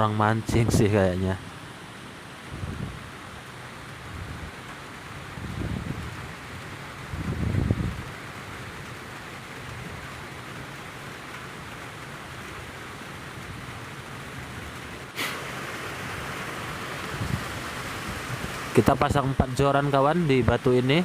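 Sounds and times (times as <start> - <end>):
falling water rushing: 0.0 - 21.0.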